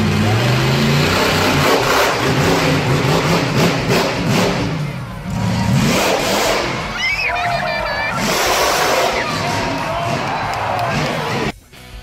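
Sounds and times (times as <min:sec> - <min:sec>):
monster truck engine revving: 0:00.0 - 0:11.6.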